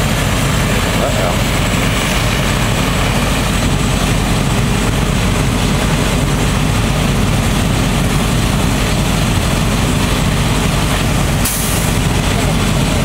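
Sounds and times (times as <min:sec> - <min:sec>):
diesel motor droning: 0:00.0 - 0:13.0.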